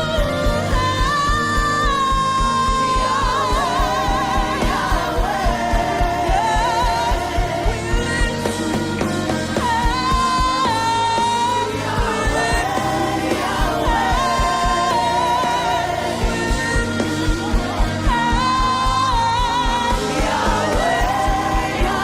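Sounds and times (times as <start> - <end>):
band with steady drum beat: 0.0 - 22.0.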